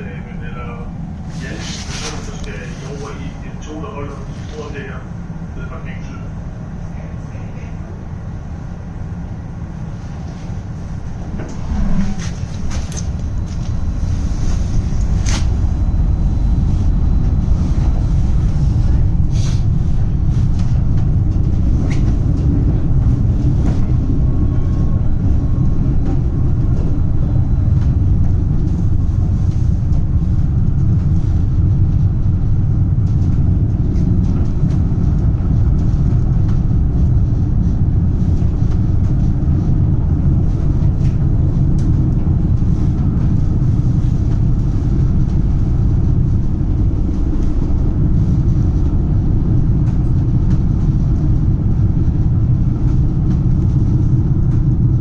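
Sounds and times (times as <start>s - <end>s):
rail car rumbling: 0.0s - 55.0s.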